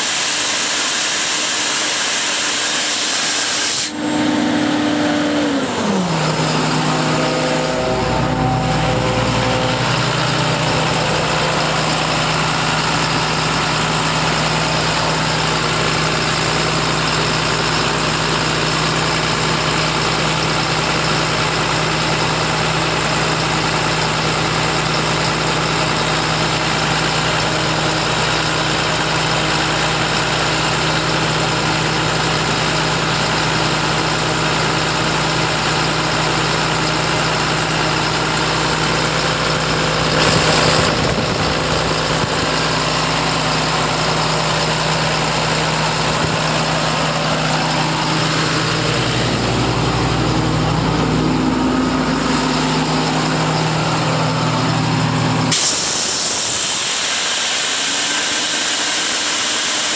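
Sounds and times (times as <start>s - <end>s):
diesel air compressor running: 0.0s - 59.9s.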